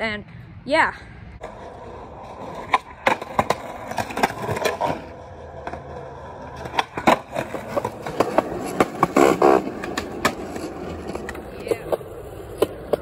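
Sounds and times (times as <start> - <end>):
skateboard wheels rolling on concrete: 0.2 - 13.0
skateboard clacks: 1.4 - 13.0.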